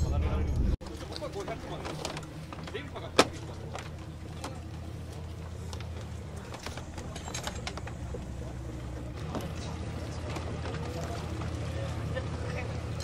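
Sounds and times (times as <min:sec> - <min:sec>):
boat engine idling: 0:00.8 - 0:13.0.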